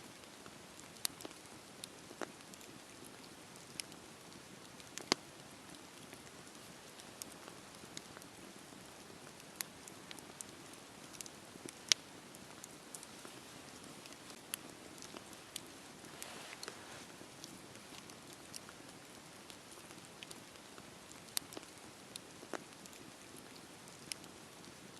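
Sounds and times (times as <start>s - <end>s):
campfire crackling and popping: 0.0s - 24.9s
campfire hissing: 0.2s - 24.9s.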